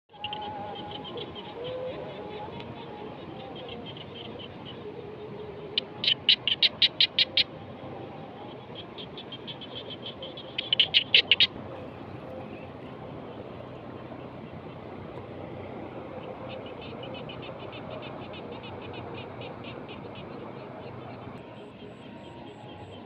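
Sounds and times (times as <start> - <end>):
frogs calling: 0.1 - 23.0.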